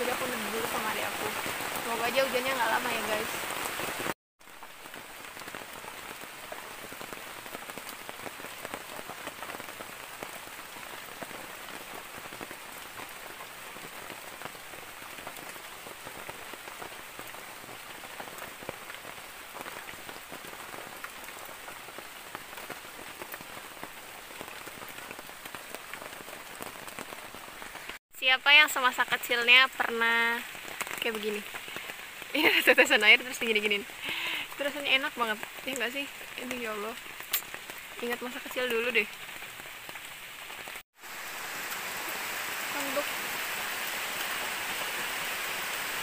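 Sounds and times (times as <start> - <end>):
rain falling on foliage: 0.0 - 46.0.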